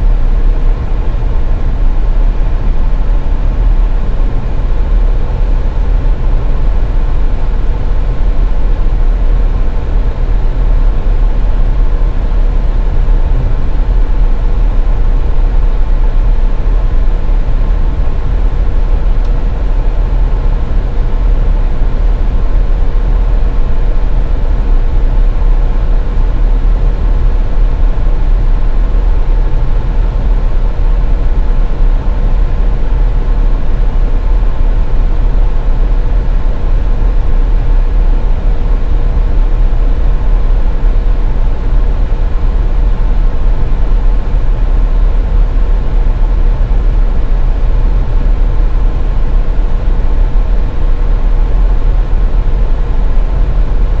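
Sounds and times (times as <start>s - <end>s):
faint constant hum: 0.0s - 54.0s.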